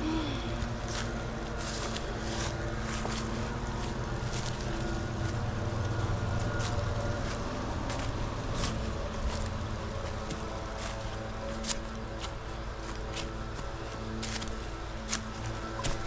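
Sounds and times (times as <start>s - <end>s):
footsteps crunching on trail: 0.1s - 16.0s.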